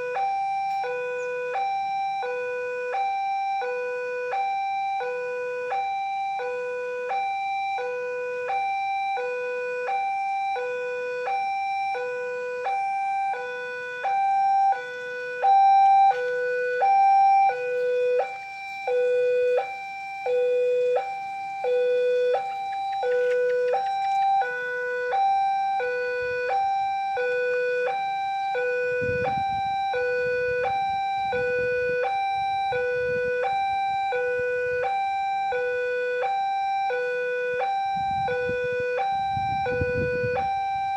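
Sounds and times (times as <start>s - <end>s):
level-crossing warning alarm: 0.0s - 40.9s.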